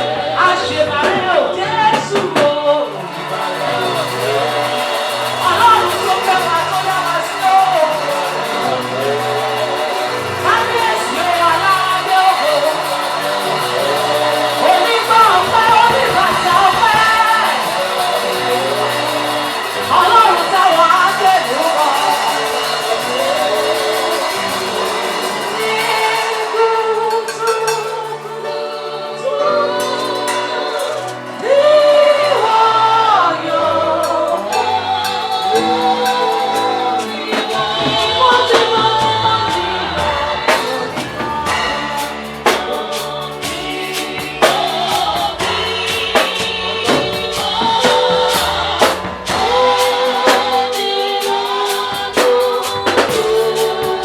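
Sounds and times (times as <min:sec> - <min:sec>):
band with keyboard and drums: 0:00.0 - 0:54.0
person singing gospel: 0:00.0 - 0:54.0.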